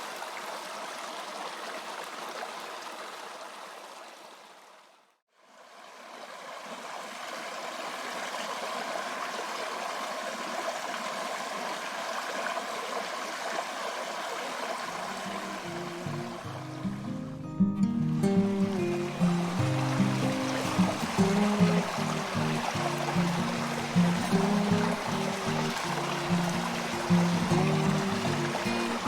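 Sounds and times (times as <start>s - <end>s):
creek water running: 0.0s - 29.0s.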